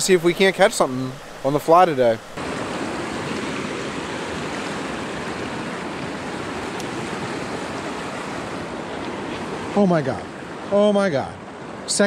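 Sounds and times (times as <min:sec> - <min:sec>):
creek water rushing over weir: 0:00.0 - 0:12.0.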